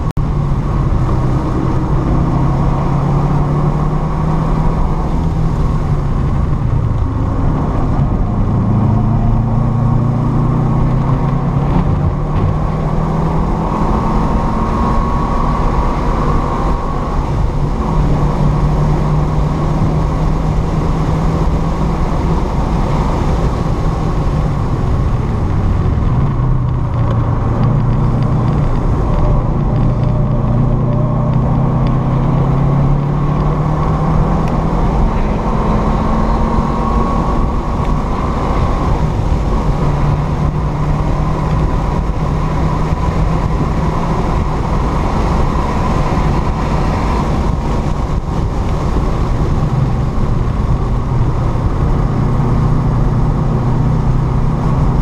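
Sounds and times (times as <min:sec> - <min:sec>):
car engine at high revs: 0:00.0 - 0:55.0
road and tyre noise: 0:00.0 - 0:55.0.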